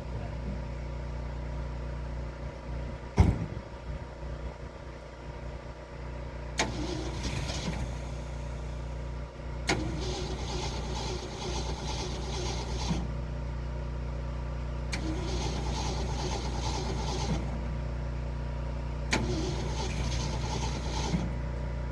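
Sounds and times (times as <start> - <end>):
truck engine running: 0.0 - 21.9.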